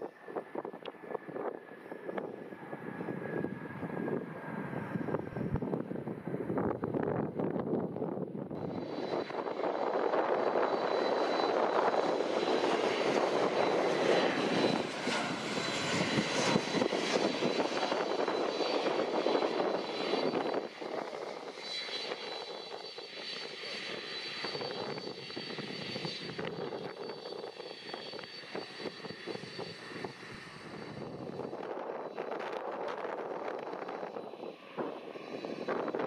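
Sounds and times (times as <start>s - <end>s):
high steady jet whine: 0.0s - 36.0s
jet engine rumble: 0.0s - 36.0s.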